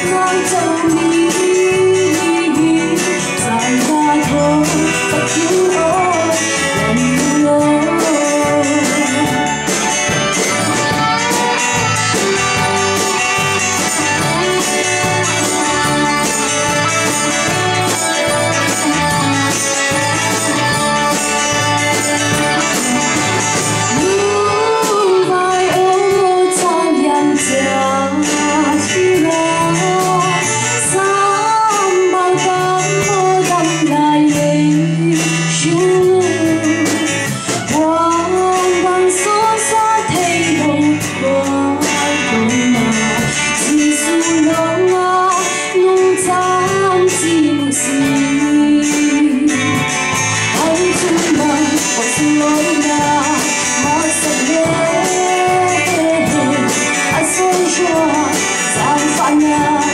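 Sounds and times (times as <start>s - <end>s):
live band with drum kit: 0.0s - 59.9s
woman singing into microphone: 0.0s - 59.9s.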